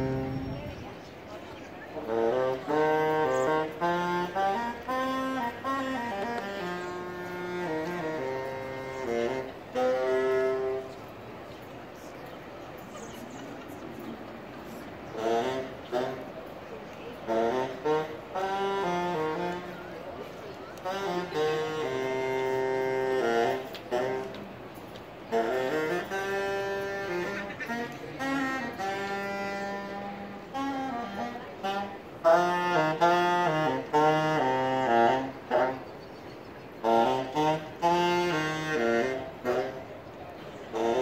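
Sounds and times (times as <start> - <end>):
solo saxophone melody: 0.0 - 0.8, 2.0 - 11.5, 15.0 - 41.0.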